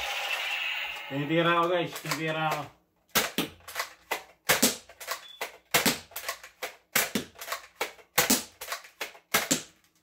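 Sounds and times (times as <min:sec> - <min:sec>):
toy dart blaster clacks and pops: 0:01.6 - 0:09.8.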